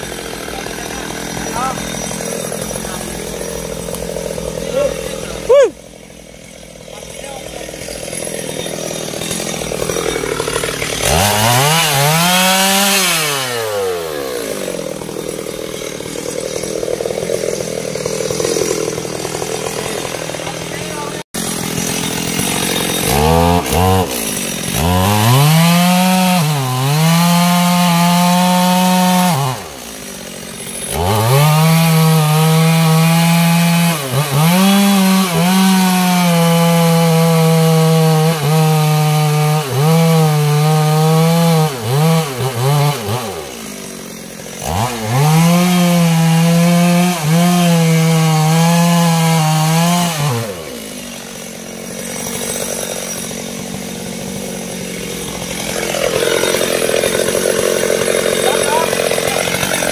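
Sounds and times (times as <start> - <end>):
chainsaw cutting tree trunk: 0.0 - 59.9
chainsaw idling: 0.0 - 59.9.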